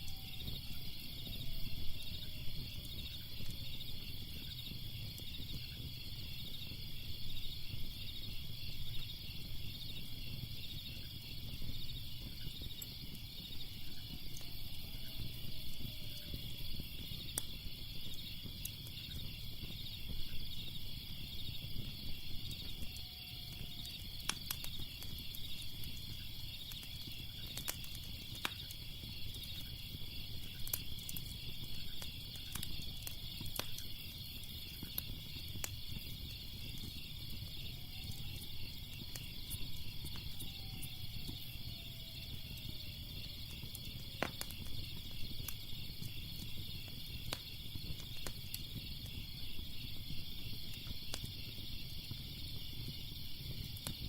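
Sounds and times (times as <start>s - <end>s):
fire rumbling and crackling: 0.0s - 54.0s
insects chirping chorus: 0.0s - 54.0s.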